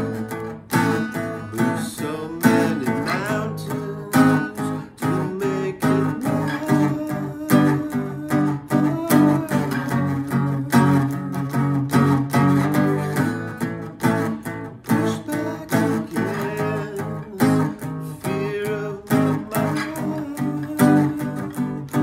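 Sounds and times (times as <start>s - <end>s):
acoustic guitar plucked and strummed: 0.0s - 22.0s.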